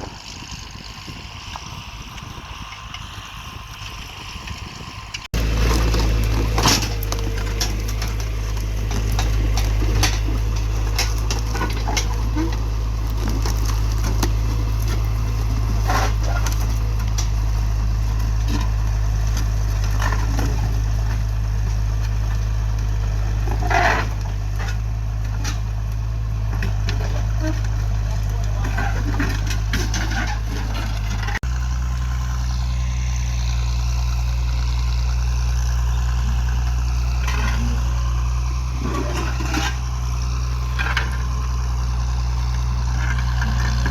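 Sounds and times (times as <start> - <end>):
tractor engine running: 0.0 - 43.9
knocks and crackles: 3.7 - 43.9.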